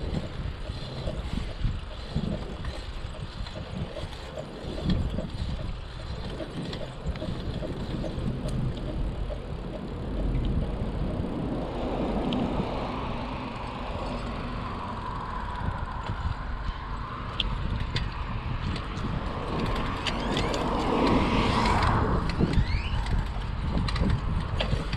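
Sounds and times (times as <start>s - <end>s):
bicycle tyre and road noise: 0.0s - 24.9s
passing traffic: 0.0s - 24.9s
wind rumbling on microphone: 0.0s - 24.9s.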